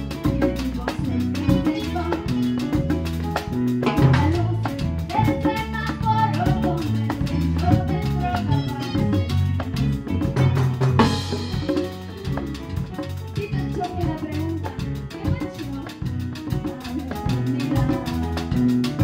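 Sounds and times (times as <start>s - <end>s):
congas: 0.0s - 19.0s
salsa music with singing: 0.0s - 19.0s.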